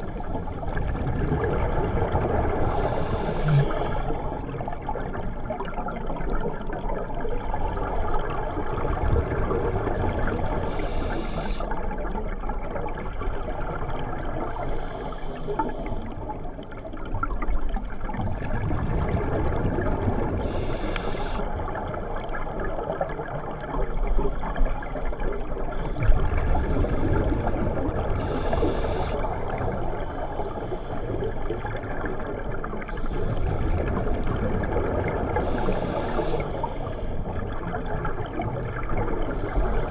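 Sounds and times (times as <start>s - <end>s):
exhaled air bubbling: 0.0s - 39.9s
muffled water rush: 0.0s - 39.9s.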